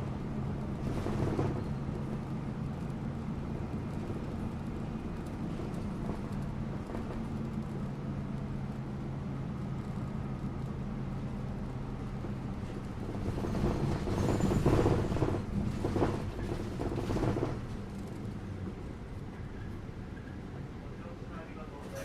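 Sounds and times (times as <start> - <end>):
bus engine humming: 0.0 - 22.0
road rumble: 0.0 - 22.0.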